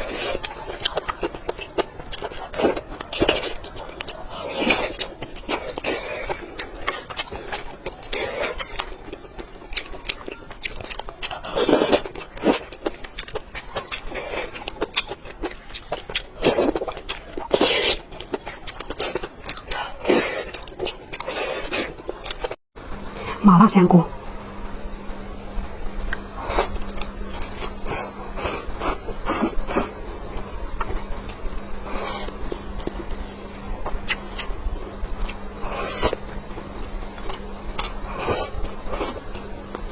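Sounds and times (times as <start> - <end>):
person chewing food: 0.0 - 22.6, 26.1 - 39.9.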